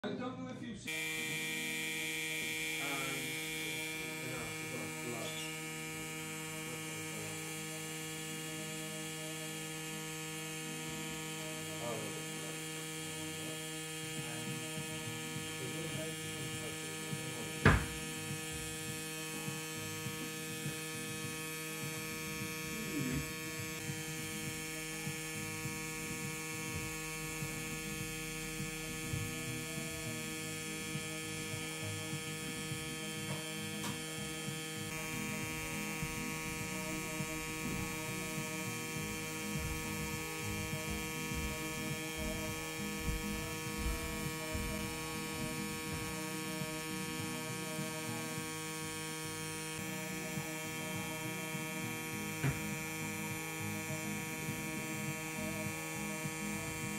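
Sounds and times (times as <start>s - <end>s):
tattoo machine humming: 0.8s - 56.9s.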